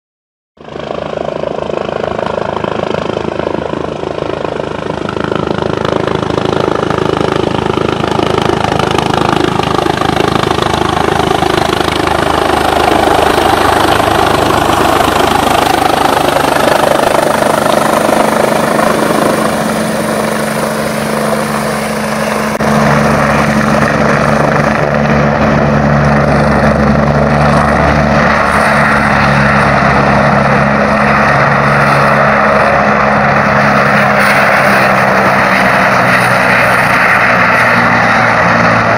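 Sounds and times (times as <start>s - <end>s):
helicopter rotor and engine: 0.6s - 38.9s.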